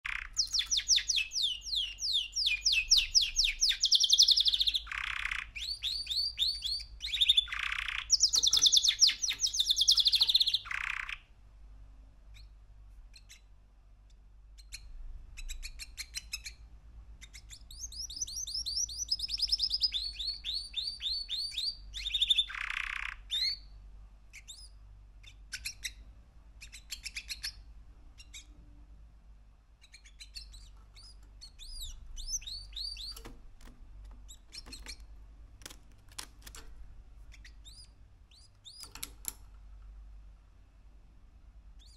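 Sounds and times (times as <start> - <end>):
canary trilling: 0.0 - 11.3, 14.6 - 28.6, 29.7 - 39.6
soft canary chirps: 0.0 - 11.5, 12.2 - 40.7, 41.4 - 41.9.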